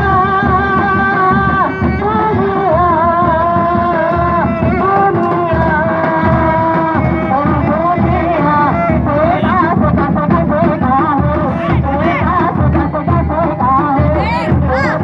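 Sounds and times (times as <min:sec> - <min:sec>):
steady drum pattern: 0:00.0 - 0:15.0.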